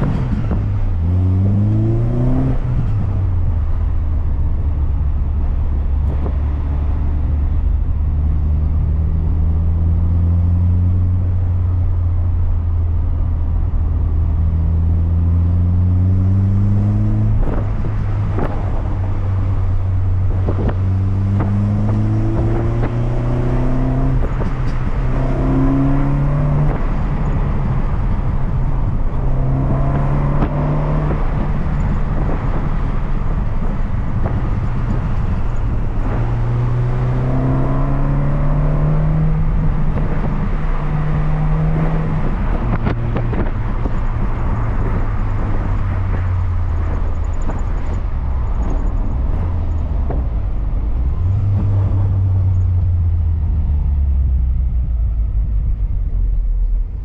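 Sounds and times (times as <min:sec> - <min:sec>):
car engine accelerating: 0:00.0 - 0:57.0
road and tyre noise: 0:00.0 - 0:57.0.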